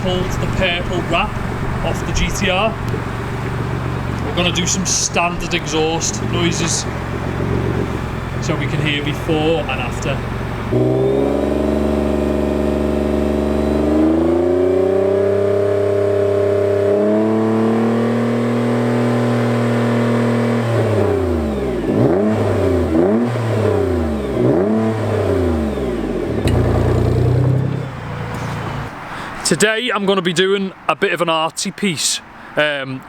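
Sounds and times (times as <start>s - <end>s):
car exhaust revving: 0.0s - 29.2s.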